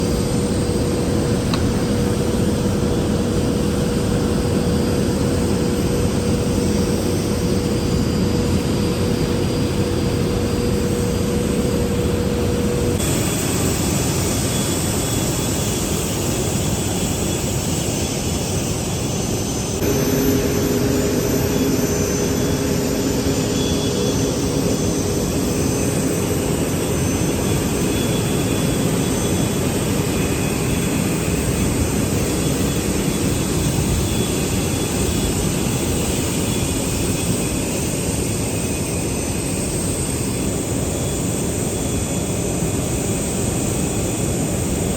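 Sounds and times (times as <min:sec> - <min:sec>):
faint hum: 0:00.0 - 0:44.9
jet engines roaring: 0:00.0 - 0:44.9.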